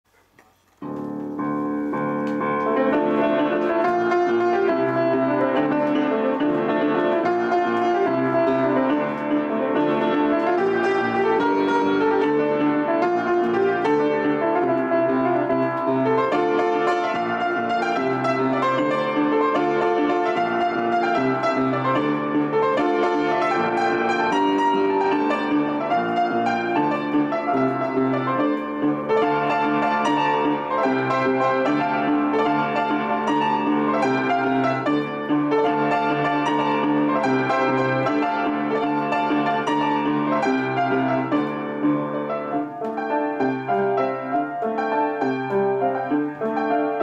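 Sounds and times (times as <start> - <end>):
upright piano playing: 0.8 - 47.0.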